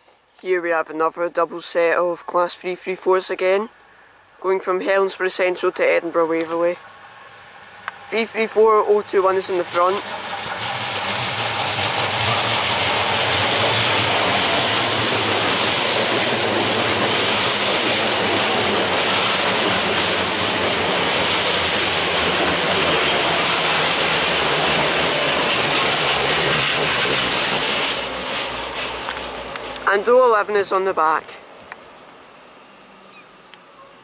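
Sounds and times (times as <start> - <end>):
train rushing past on rails: 5.6 - 33.8.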